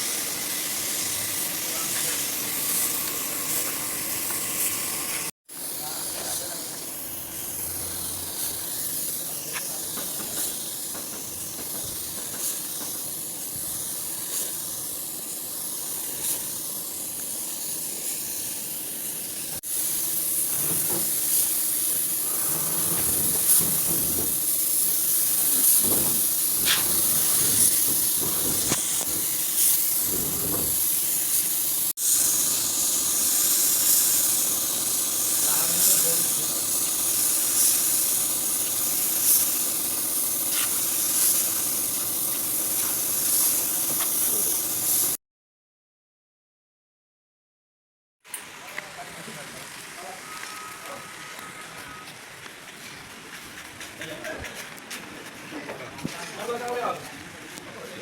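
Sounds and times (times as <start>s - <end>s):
steady hiss: 0.0s - 45.2s, 48.3s - 55.4s.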